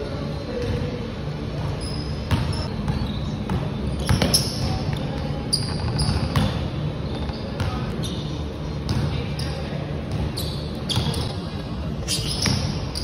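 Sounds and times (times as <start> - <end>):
sneaker squeaks: 0.3 - 13.0.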